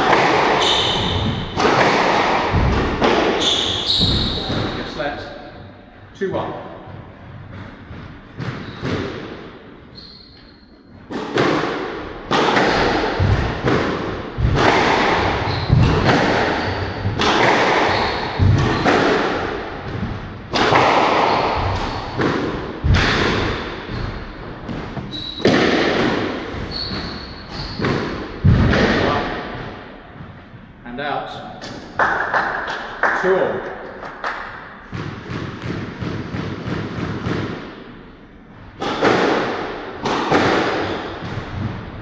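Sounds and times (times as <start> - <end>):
squash ball hits: 0.0 - 5.4, 6.9 - 9.8, 10.9 - 30.4, 31.6 - 42.0.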